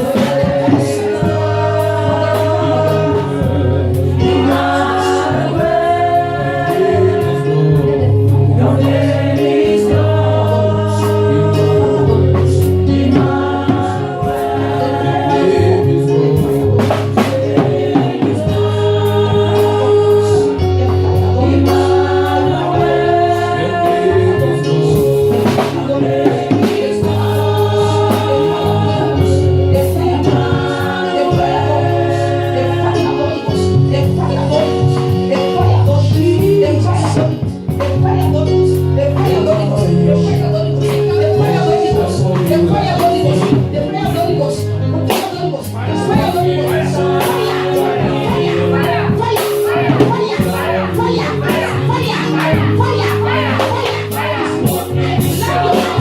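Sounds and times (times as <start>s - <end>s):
bass line: 0.0s - 56.0s
choir singing gospel: 0.0s - 56.0s
drums: 0.0s - 56.0s.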